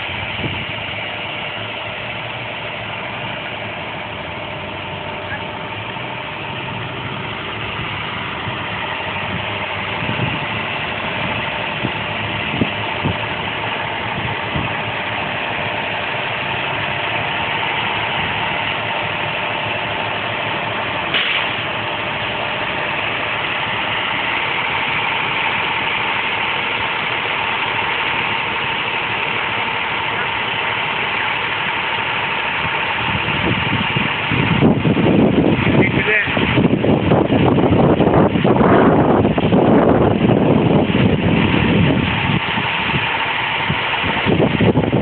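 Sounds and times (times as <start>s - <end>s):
vehicle engine idling: 0.0s - 45.0s.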